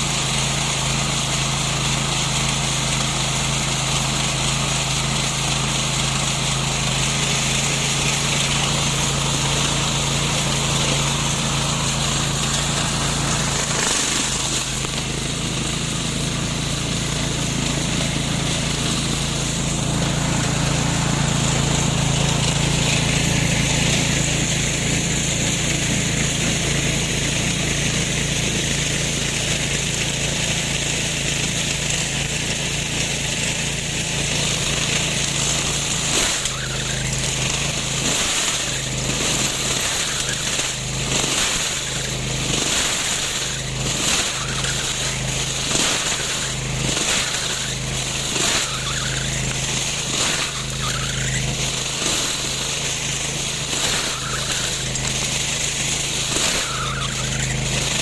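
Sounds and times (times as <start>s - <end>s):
lawn mower engine humming: 0.0s - 58.0s.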